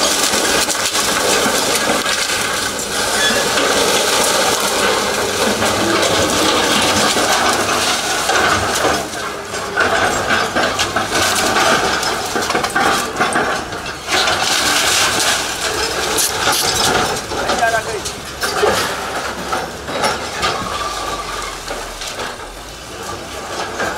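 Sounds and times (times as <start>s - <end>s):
excavator diesel engine running: 0.0s - 23.9s
masonry debris cracking and clattering: 0.0s - 23.9s.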